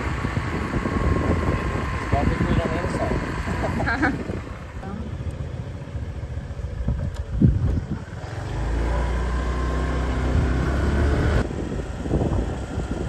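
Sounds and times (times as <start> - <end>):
wind rumbling on microphone: 0.0 - 5.3, 6.1 - 13.0
motorbike engine running: 0.0 - 13.0.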